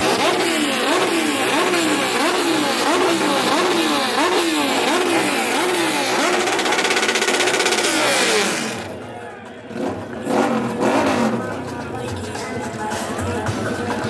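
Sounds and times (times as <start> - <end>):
motorcycle engine revving: 0.0 - 12.6.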